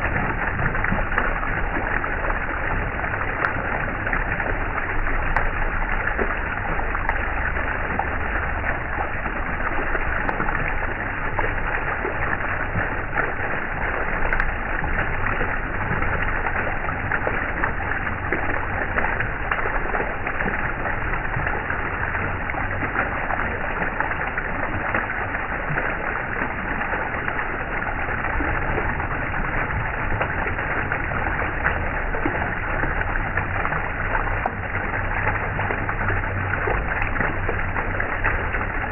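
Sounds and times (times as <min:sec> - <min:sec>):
water flowing: 0:00.0 - 0:38.9.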